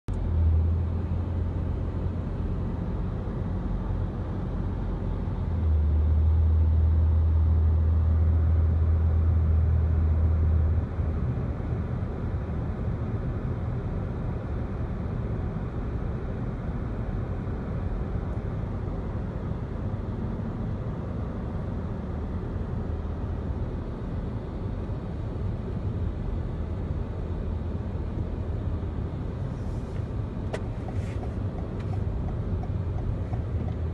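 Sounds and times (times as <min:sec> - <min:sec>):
car driving from inside cabin: 0:00.1 - 0:33.9.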